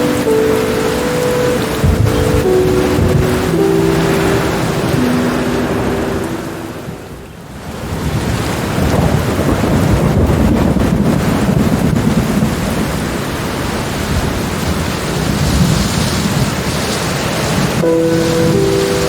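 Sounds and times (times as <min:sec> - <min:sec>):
rolling thunder rumble: 0:00.0 - 0:16.8
steady rain: 0:00.0 - 0:19.0.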